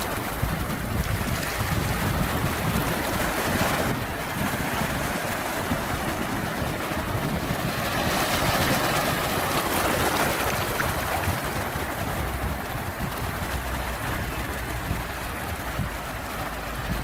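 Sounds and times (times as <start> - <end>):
sea waves surf: 0.0 - 17.0.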